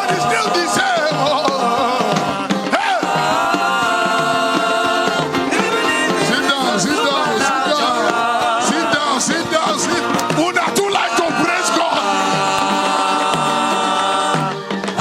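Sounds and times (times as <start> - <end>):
person singing and chanting: 0.0 - 15.0.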